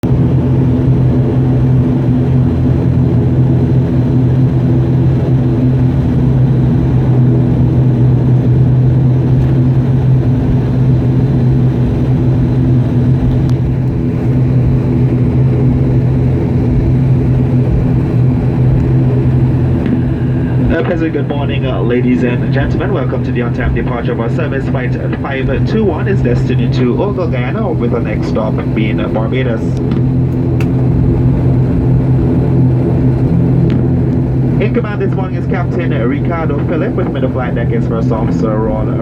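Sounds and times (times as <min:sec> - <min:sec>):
turboprop engines droning: 0:00.0 - 0:39.0.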